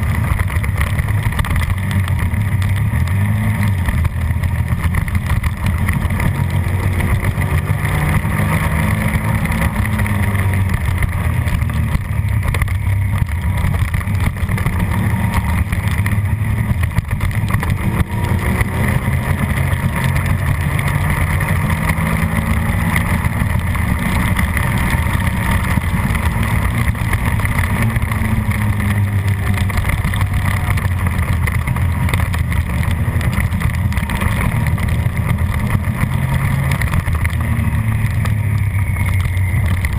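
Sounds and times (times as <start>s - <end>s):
race motorcycle engine revving: 0.0s - 39.9s.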